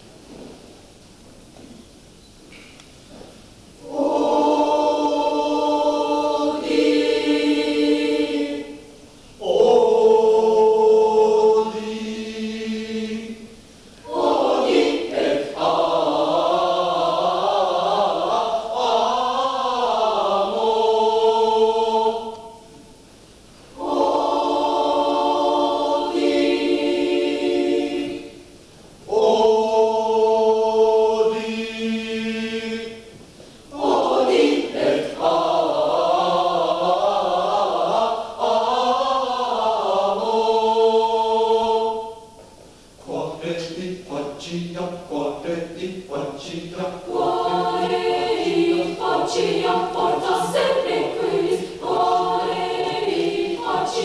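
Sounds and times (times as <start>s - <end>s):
choir singing held chords: 3.7s - 54.0s.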